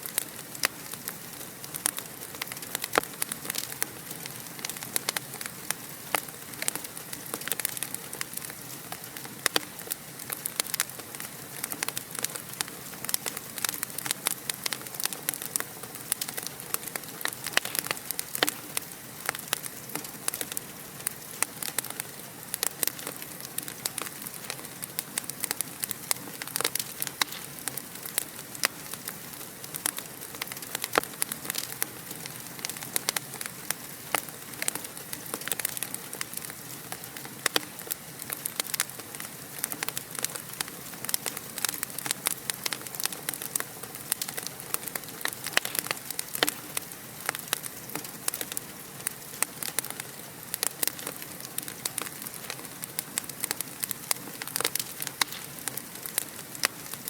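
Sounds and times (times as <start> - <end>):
sharp pops and snaps: 0.0 - 57.0
wood fire crackling: 0.0 - 57.0.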